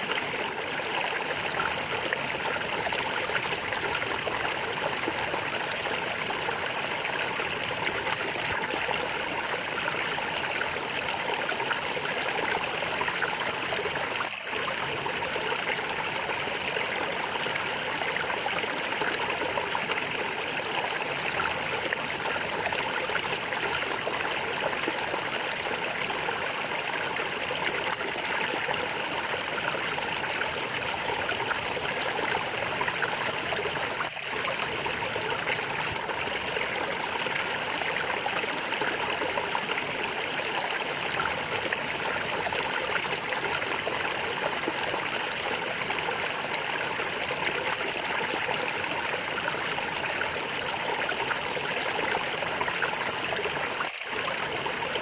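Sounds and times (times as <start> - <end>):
water gurgling: 0.0 - 55.0.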